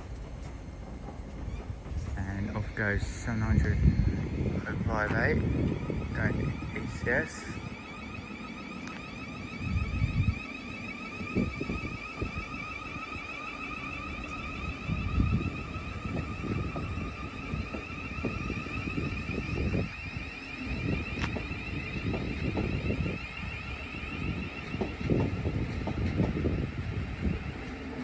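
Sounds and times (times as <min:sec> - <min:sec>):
electric train whine: 0:00.0 - 0:28.0
wind buffeting microphone: 0:00.0 - 0:28.0.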